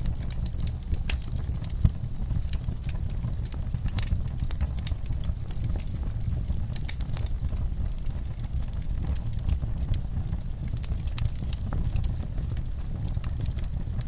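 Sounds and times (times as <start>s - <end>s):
fire flames rumbling: 0.0s - 14.0s
wood fire crackling and popping: 0.0s - 14.0s.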